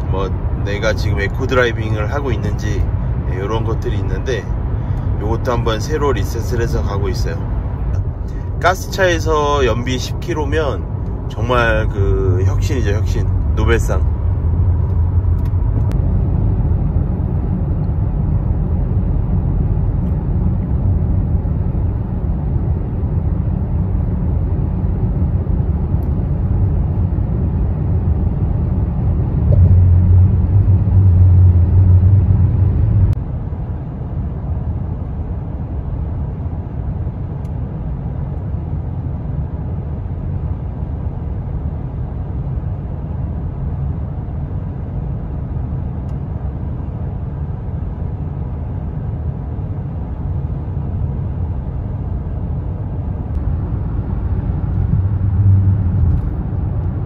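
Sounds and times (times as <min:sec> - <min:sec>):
car engine and road drone: 0:00.0 - 0:57.0.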